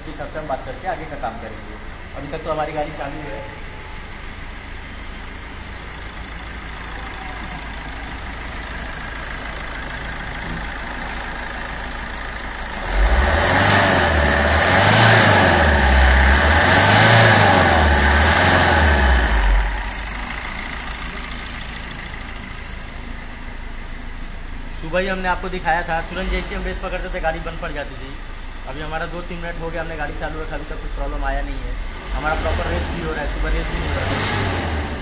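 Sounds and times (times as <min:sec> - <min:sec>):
diesel engine idling and revving: 0:00.0 - 0:35.0.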